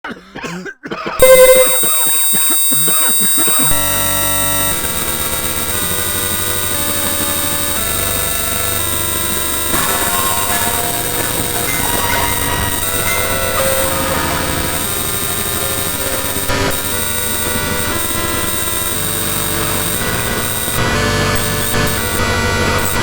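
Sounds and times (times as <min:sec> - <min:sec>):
harsh electronic held tones: 0:01.2 - 0:23.0.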